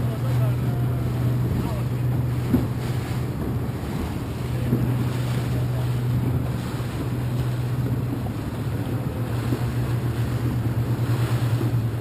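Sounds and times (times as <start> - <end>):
boat engine humming: 0.0 - 12.0
water rushing past hull: 0.0 - 12.0
wind buffeting microphone: 0.0 - 12.0.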